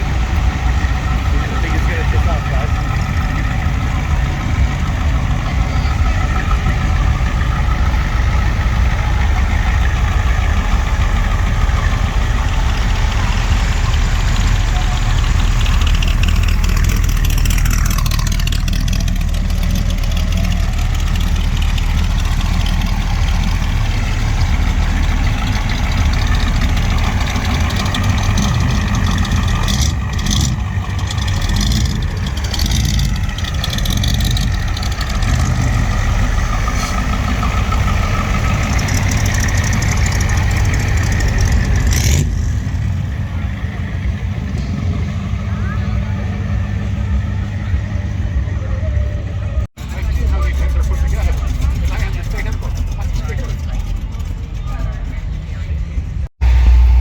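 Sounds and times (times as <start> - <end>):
vehicle engine idling: 0.0 - 57.0.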